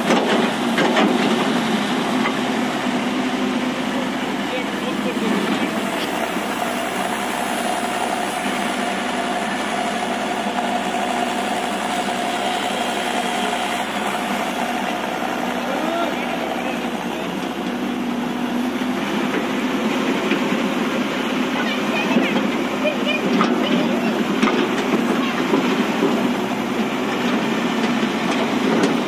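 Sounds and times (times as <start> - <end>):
excavator diesel engine running: 0.0 - 29.0
steady whine: 0.0 - 29.0.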